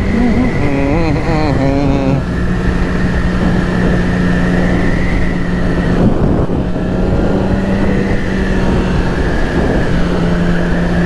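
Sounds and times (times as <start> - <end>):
wind rush: 1.9 - 11.0.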